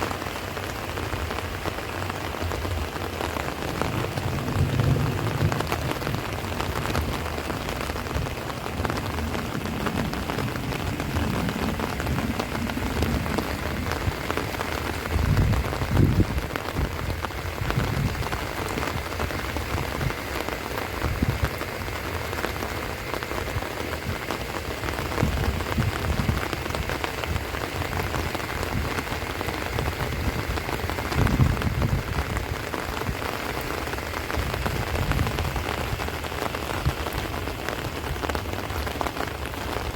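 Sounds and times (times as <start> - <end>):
heavy rain: 0.0 - 39.9
wind gusts hitting microphone: 0.0 - 39.9.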